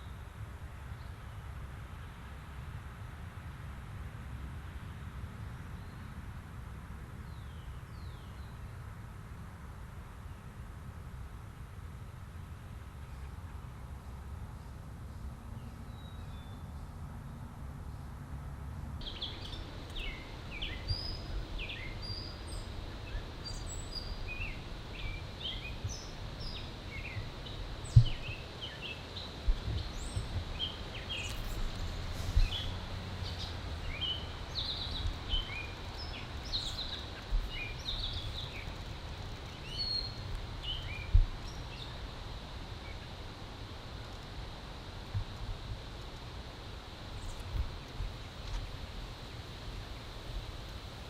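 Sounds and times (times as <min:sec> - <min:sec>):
low outdoor rumble: 0:00.0 - 0:51.0
songbirds chirping: 0:07.1 - 0:10.8, 0:12.5 - 0:51.0.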